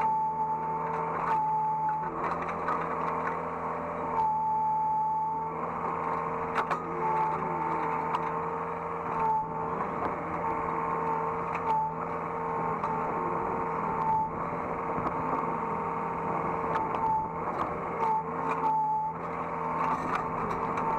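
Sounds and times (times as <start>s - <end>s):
excavator diesel engine running: 0.0s - 20.9s
hydraulic whine: 0.0s - 20.9s.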